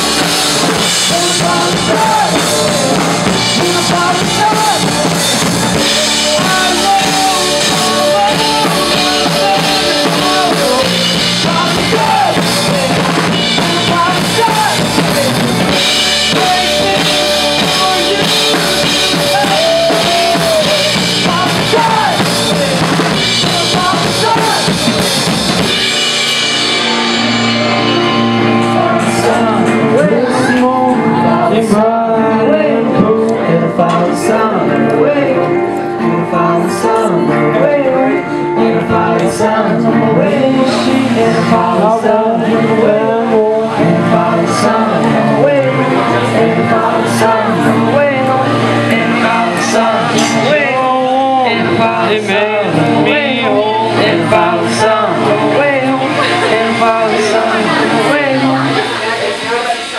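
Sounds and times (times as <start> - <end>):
woman and man singing: 0.0 - 25.4, 26.8 - 59.9
drum kit: 0.0 - 59.9
electric bass: 0.0 - 59.9
live rock band playing: 0.0 - 59.9.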